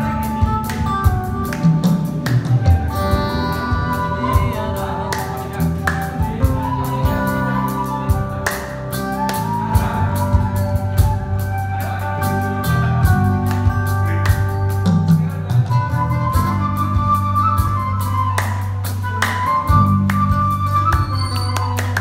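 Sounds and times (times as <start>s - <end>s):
acoustic and electric guitars: 0.0s - 22.0s
bamboo flute melody: 0.0s - 22.0s.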